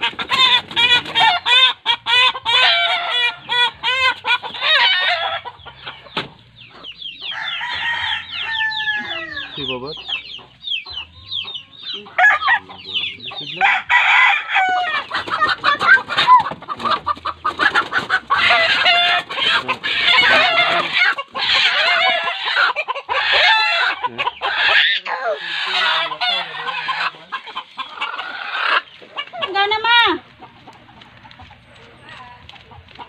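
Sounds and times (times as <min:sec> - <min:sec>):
chickens squawking in distress: 0:00.0 - 0:32.1.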